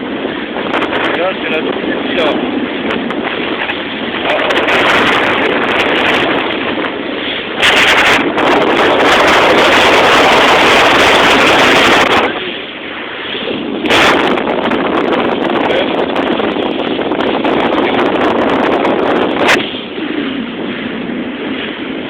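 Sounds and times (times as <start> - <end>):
wind and water rushing: 0.0 - 22.0.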